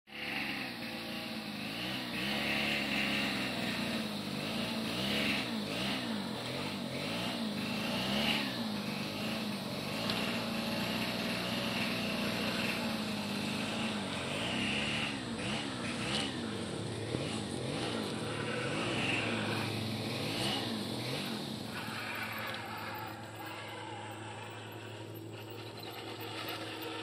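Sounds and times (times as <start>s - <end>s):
rc car motor and gears whining: 0.1s - 27.0s.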